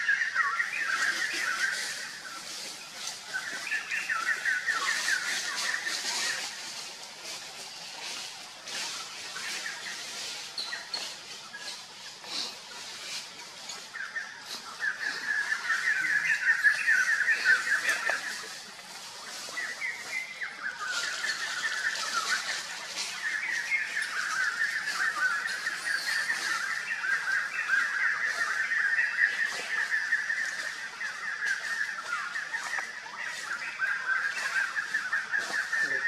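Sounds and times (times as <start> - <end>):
birds chattering: 0.0 - 36.0.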